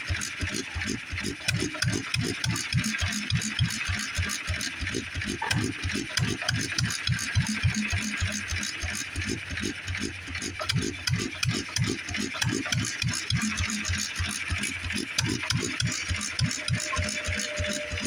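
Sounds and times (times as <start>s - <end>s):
stationary engine thumping: 0.0s - 18.0s.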